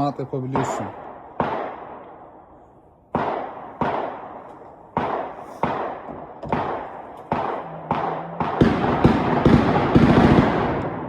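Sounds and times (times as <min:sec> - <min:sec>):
gunshots with reverberant tail: 0:00.0 - 0:11.0.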